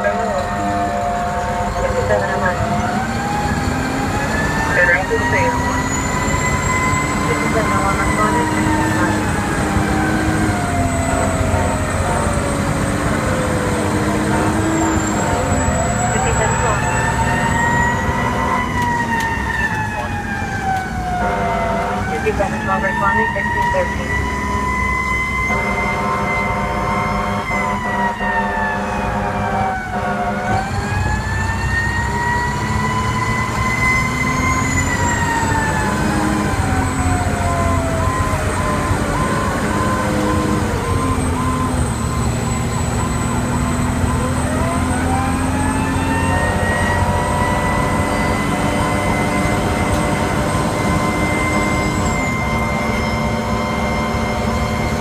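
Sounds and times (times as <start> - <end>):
fire truck horn blasts: 0.0 - 4.2, 11.2 - 19.4, 21.0 - 55.0
fire engine siren wailing: 0.0 - 55.0
truck engine running: 0.0 - 55.0.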